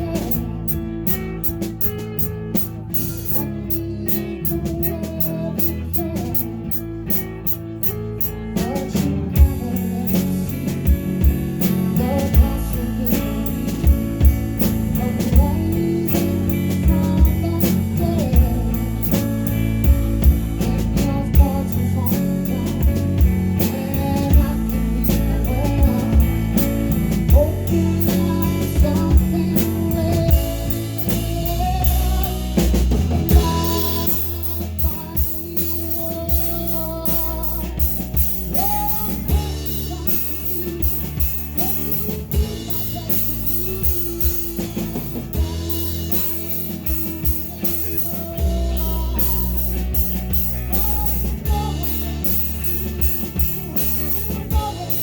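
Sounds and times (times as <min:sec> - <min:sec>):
drum kit: 0:00.0 - 0:55.0
guitar: 0:00.0 - 0:55.0
person singing: 0:00.0 - 0:55.0.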